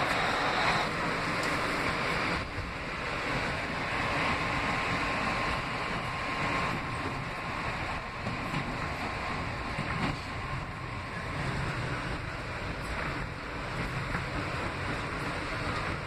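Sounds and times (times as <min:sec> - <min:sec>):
subway wheels rumbling on rail: 0:00.0 - 0:16.0.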